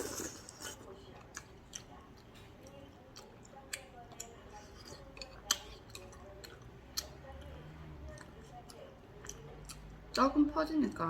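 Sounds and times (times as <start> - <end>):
faint chewing: 0.0 - 11.0.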